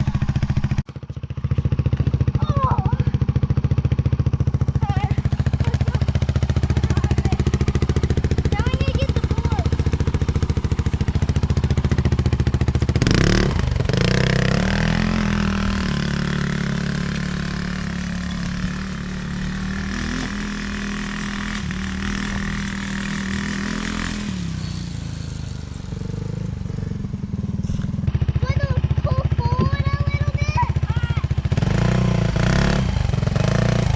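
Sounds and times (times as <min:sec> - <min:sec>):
off-road vehicle engine revving: 0:01.5 - 0:33.9.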